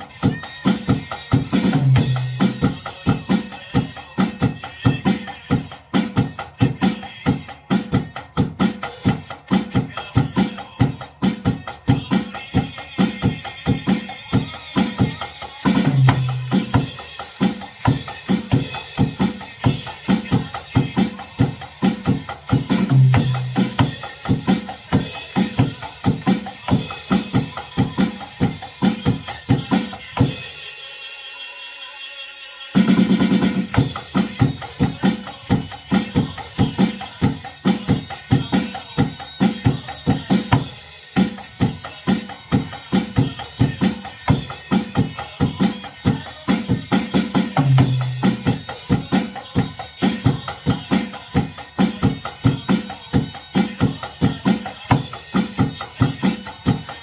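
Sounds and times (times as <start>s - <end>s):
gospel pop backing track: 0.0s - 30.7s, 32.7s - 57.0s
drum kit playing a steady beat: 0.0s - 57.0s.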